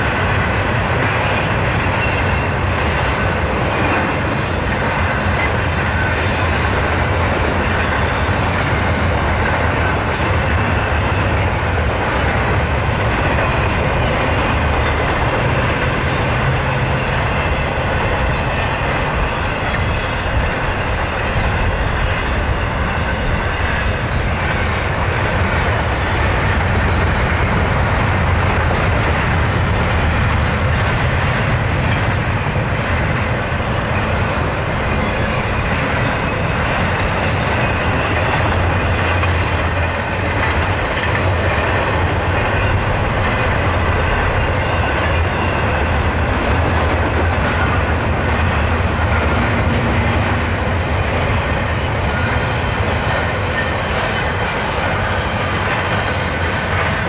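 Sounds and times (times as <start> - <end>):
freight train wheels rolling: 0.0 - 57.0.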